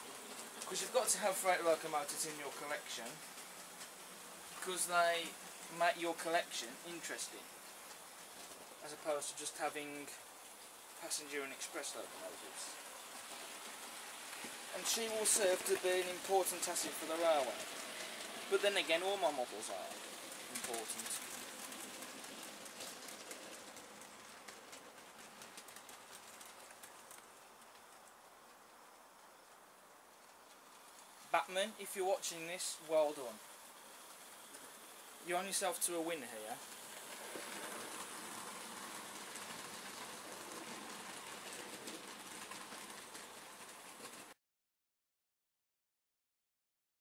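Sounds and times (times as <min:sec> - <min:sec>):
model train wheels clicking: 0:00.0 - 0:44.4.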